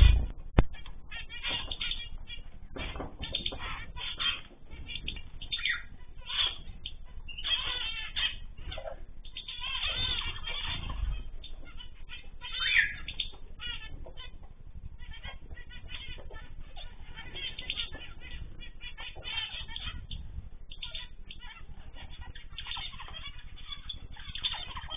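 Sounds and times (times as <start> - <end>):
birds chirping and calling: 0.0 - 24.9
wings fluttering: 0.0 - 24.9.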